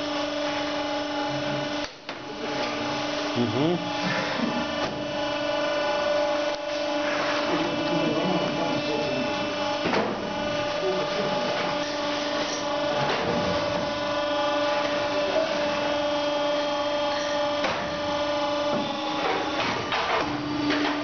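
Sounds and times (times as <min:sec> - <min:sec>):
hydraulic machine humming: 0:00.0 - 0:21.0.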